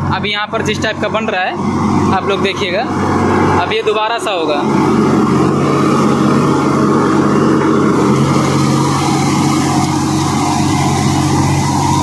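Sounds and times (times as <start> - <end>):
tractor diesel engine: 0.0 - 12.0
rotavator churning soil: 1.6 - 12.0.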